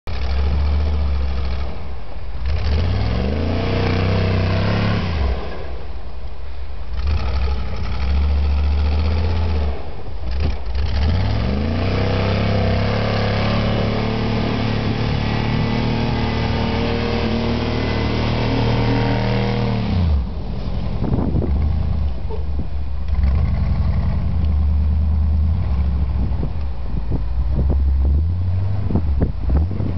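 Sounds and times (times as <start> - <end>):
truck engine revving: 2.4 - 5.6, 6.9 - 29.9.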